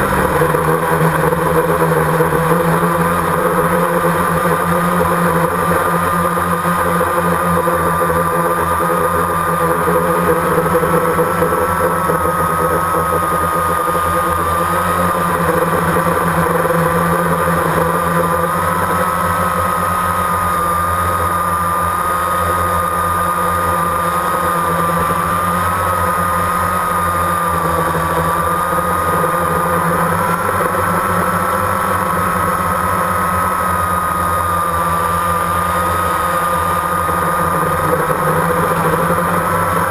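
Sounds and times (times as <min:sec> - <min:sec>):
drone motors whining: 0:00.0 - 0:39.9
low hum: 0:00.0 - 0:39.9.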